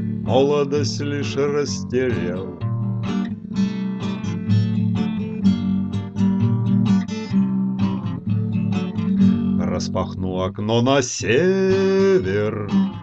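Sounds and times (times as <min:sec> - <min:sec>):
steady bass line: 0:00.0 - 0:10.6
acoustic guitar strumming: 0:00.0 - 0:13.0.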